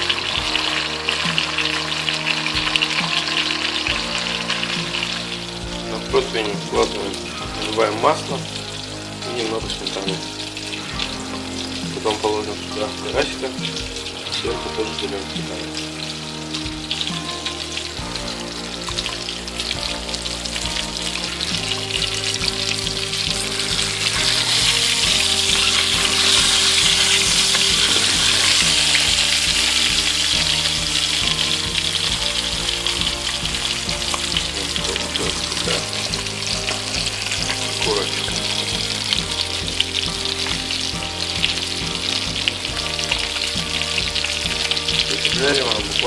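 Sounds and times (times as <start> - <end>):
fish sizzling in hot oil: 0.0 - 46.0
oil spitting and crackling: 0.0 - 46.0.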